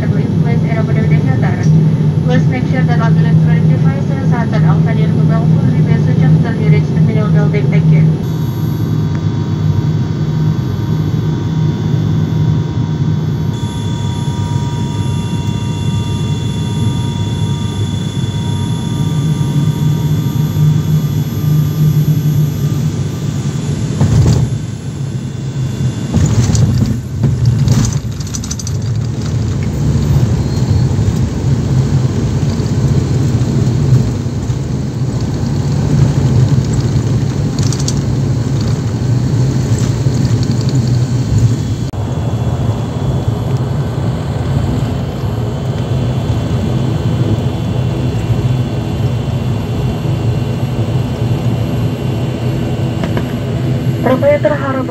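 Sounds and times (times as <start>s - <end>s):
propeller drone: 0.0s - 54.9s
thin engine whine: 0.0s - 54.9s.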